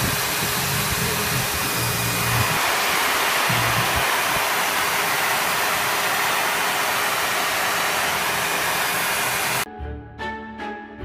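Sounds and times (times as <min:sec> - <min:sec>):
hair dryer blowing: 0:00.0 - 0:09.7.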